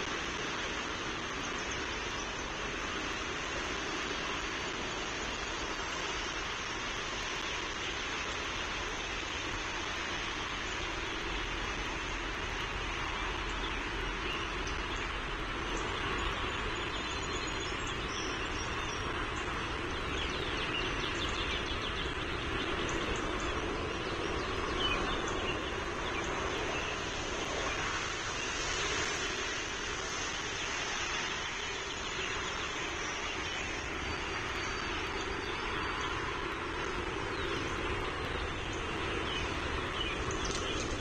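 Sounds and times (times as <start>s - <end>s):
small birds chirping: 0.0s - 41.0s
steady rushing noise: 0.0s - 41.0s.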